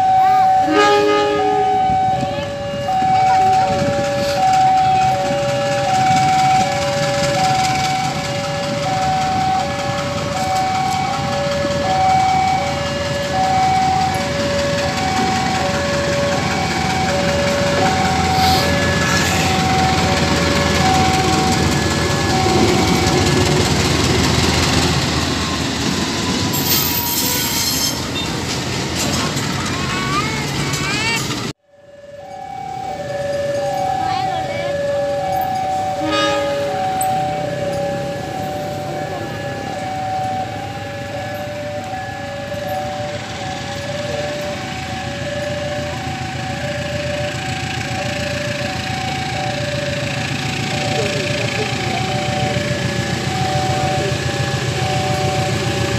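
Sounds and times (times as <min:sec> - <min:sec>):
level crossing alarm two tones: 0:00.0 - 0:27.7, 0:31.9 - 0:55.9
train wheels rumbling on rails: 0:00.0 - 0:31.6, 0:32.3 - 0:55.9.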